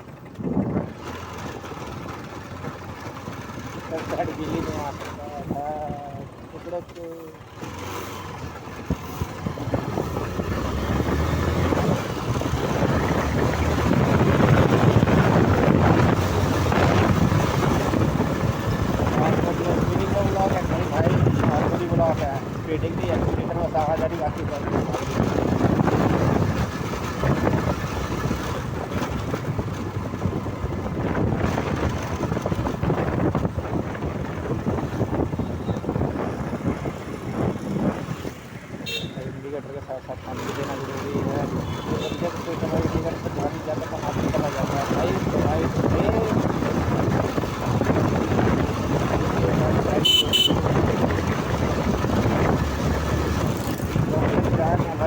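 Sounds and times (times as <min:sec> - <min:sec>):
motorcycle engine running: 0:00.0 - 0:55.0
road noise: 0:00.0 - 0:55.0
wind on microphone: 0:08.8 - 0:39.4, 0:41.0 - 0:55.0.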